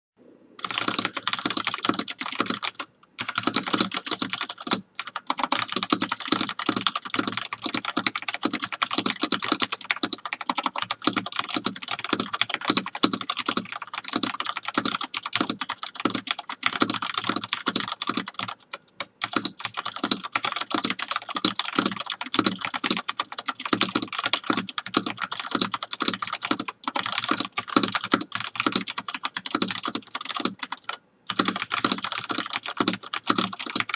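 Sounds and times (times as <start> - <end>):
fast typing on mechanical keyboard: 0.6 - 33.9.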